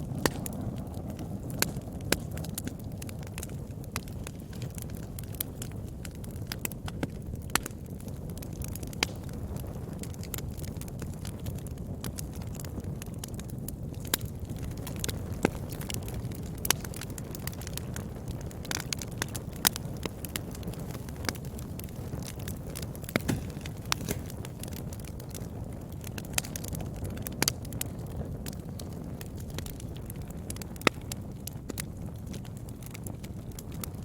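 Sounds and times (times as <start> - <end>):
fire crackling and popping: 0.0 - 34.0
fire flames rumbling: 0.0 - 34.0.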